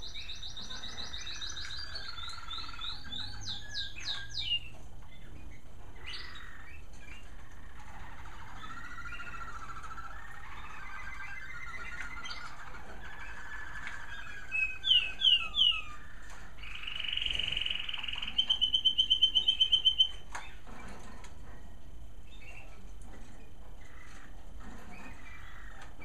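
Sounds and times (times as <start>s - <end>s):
canaries singing: 0.0s - 26.0s.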